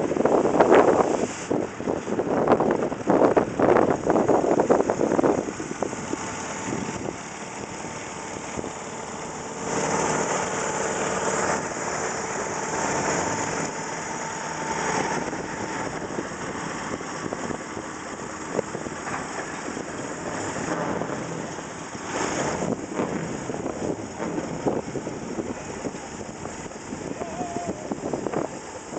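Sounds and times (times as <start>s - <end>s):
steam traction engine running: 0.0s - 28.9s.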